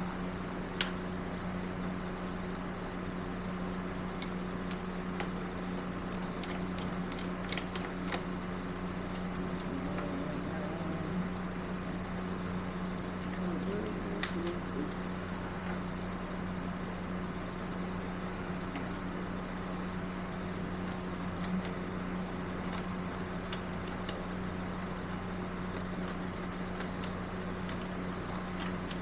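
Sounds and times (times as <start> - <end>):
electric fan hum: 0.0 - 29.0.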